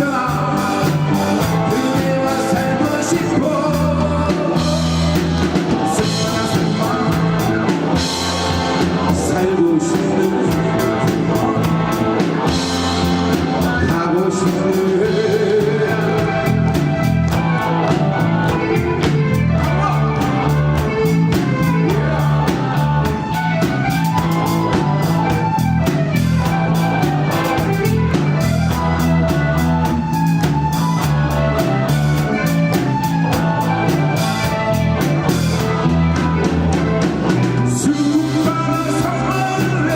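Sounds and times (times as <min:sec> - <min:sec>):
bass line: 0:00.0 - 0:39.9
drum kit beat: 0:00.0 - 0:39.9
electric guitar: 0:00.0 - 0:39.9
melodic lead line: 0:00.0 - 0:39.9
rock band playing: 0:00.0 - 0:39.9.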